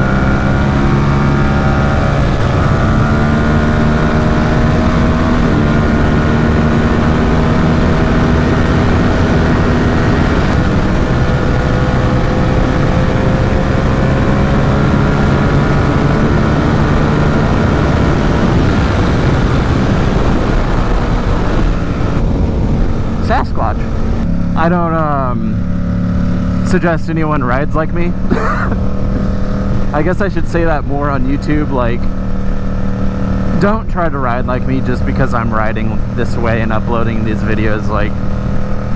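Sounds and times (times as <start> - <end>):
heavy wind rush: 0.0 - 25.5, 26.2 - 38.9
motorcycle engine pulling: 0.0 - 38.9.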